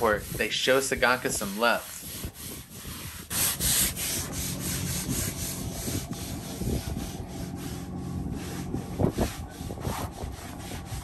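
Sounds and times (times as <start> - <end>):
deck brush scrubbing: 0.0 - 11.0.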